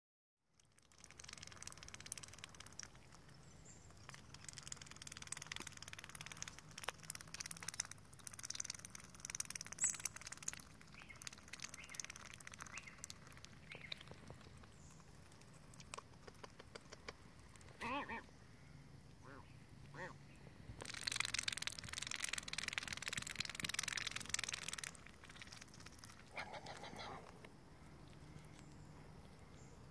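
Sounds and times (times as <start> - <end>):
duck bill clicking in mud: 0.6 - 17.7, 20.8 - 28.8.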